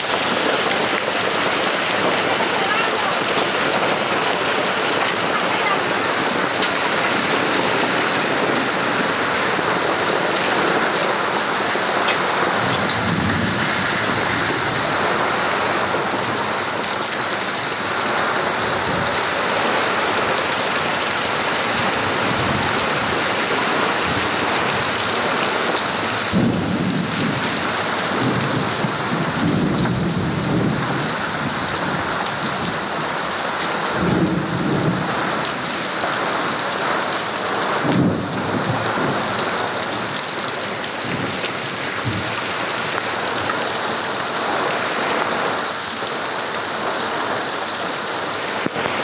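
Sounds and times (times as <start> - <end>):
heavy rain and hail pelting: 0.0 - 49.0.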